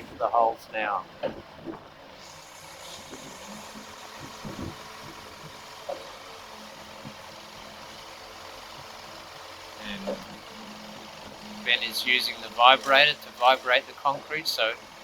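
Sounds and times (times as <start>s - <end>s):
machinery engine running: 0.0s - 15.0s.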